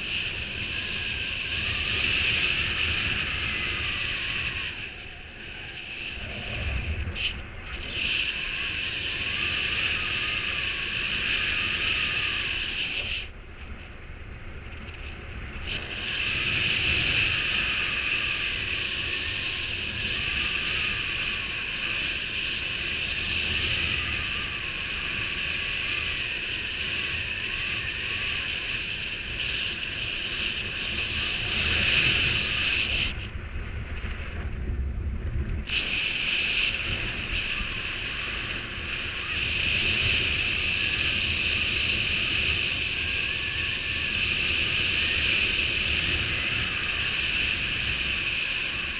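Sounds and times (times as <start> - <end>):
low wind buffeting: 0.0 - 48.9
wind rushing over microphone: 0.0 - 48.9.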